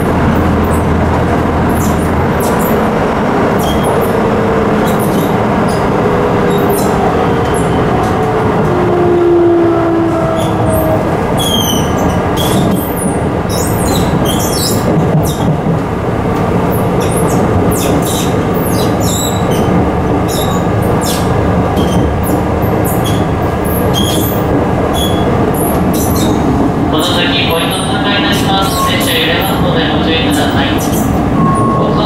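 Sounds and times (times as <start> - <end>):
rumble of wheels on rail: 0.0 - 32.0.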